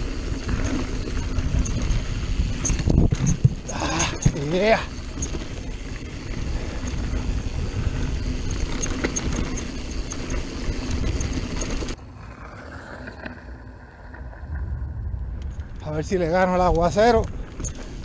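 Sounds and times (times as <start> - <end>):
bike rattling: 0.0 - 18.0
bike tyres on dirt: 0.0 - 18.0
wind on microphone: 0.0 - 18.0.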